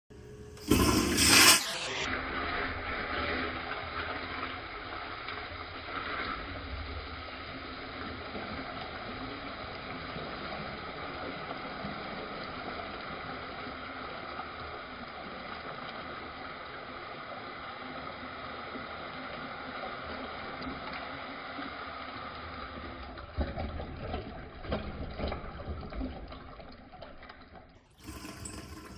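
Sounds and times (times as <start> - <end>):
toilet flush slowed down: 0.1 - 28.9.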